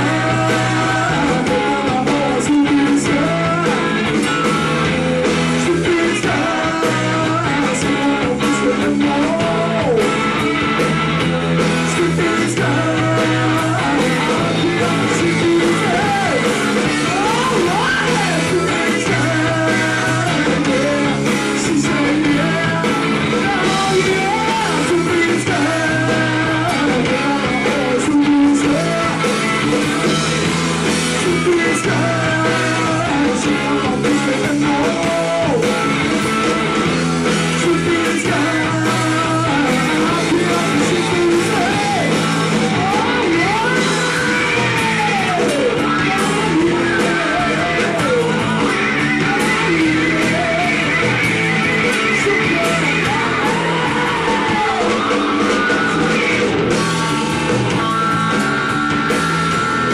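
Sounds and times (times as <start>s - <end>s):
bass: 0.0s - 59.9s
drums with cymbals: 0.0s - 59.9s
electric guitars: 0.0s - 59.9s
lead vocals: 0.0s - 59.9s.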